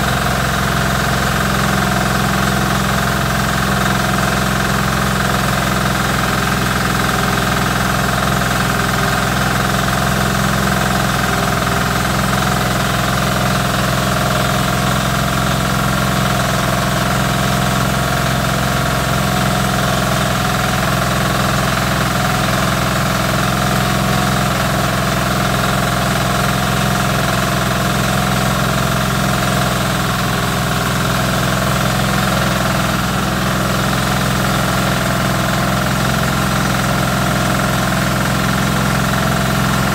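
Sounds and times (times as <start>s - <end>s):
diesel engine running under load: 0.0s - 39.9s
rice milling machine: 0.0s - 39.9s.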